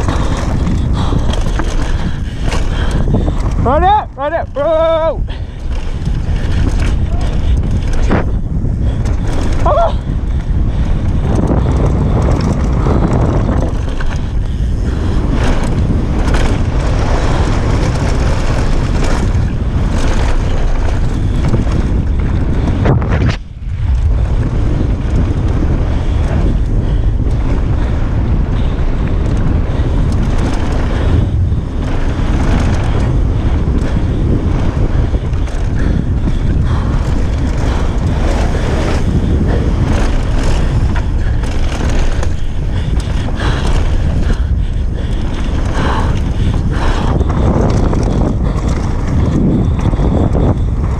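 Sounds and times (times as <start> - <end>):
bike clattering over bumps: 0.0 - 50.9
bike tyres rumbling on gravel: 0.0 - 50.9
wind buffeting microphone: 0.0 - 50.9.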